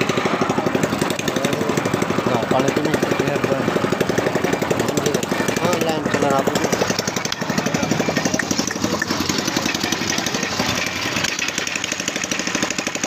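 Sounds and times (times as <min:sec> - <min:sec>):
small engine thumping: 0:00.0 - 0:13.0.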